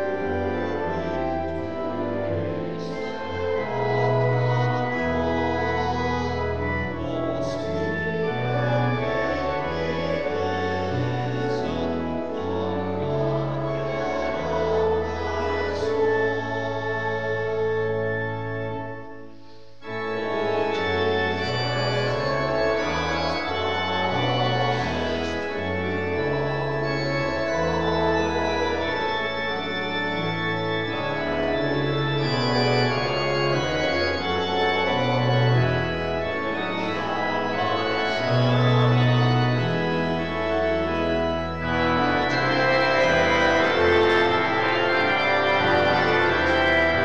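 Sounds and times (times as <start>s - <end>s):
organ bass line: 0.0s - 47.0s
organ playing sustained chords: 0.0s - 47.0s.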